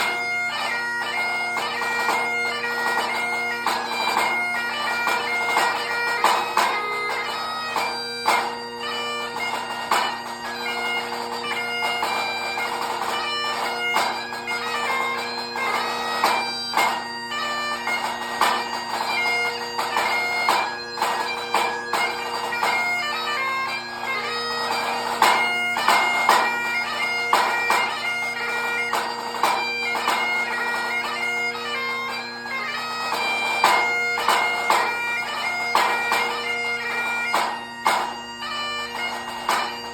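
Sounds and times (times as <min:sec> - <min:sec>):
bagpipe playing a tune: 0:00.0 - 0:39.9.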